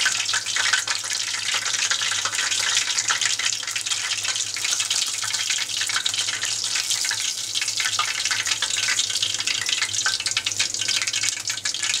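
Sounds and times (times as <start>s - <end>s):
oil sizzling in a pot: 0.0s - 12.0s.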